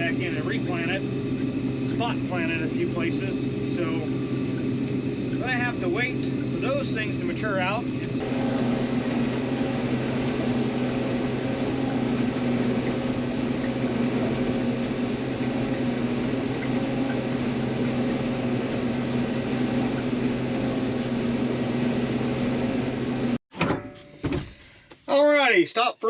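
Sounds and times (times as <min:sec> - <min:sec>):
combine harvester engine drone: 0:00.0 - 0:23.4.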